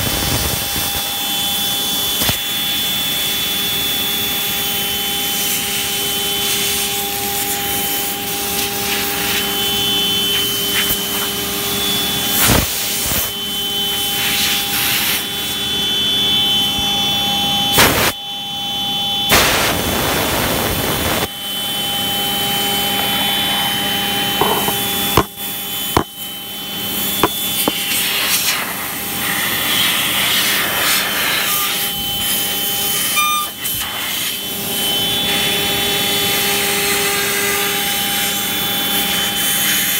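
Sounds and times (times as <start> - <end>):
router spindle whine: 0.0 - 19.4, 20.2 - 39.9.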